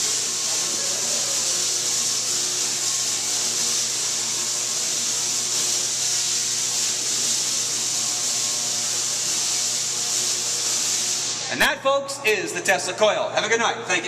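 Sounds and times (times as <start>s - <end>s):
tesla coil hissing buzz: 0.0s - 14.0s.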